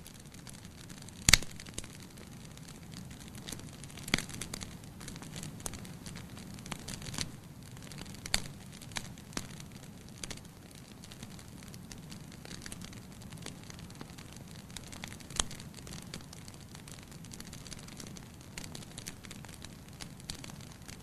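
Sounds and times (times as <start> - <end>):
fire popping and snapping: 0.0 - 21.0
wood fire crackling: 0.0 - 21.0.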